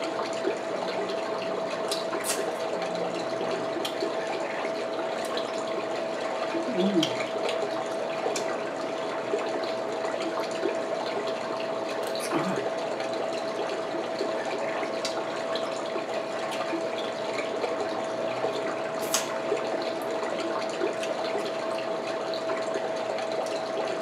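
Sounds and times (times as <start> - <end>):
constant hum: 0.0 - 24.0.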